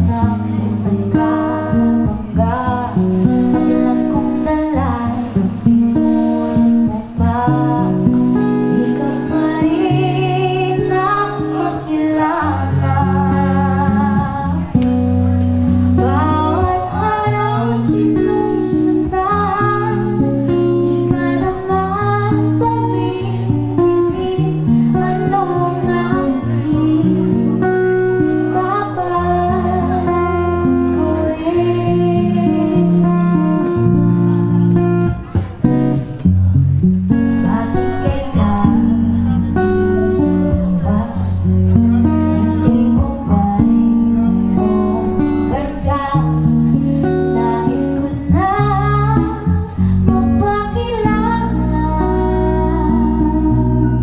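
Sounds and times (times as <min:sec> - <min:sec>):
woman singing: 0:00.0 - 0:15.1, 0:15.9 - 0:34.0, 0:37.1 - 0:54.0
guitar and bass: 0:00.0 - 0:54.0.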